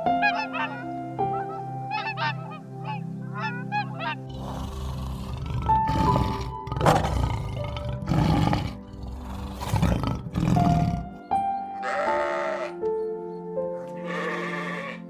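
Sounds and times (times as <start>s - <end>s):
rough animal calls: 0.0s - 12.8s, 14.0s - 15.0s
background music with sustained notes: 0.0s - 15.0s.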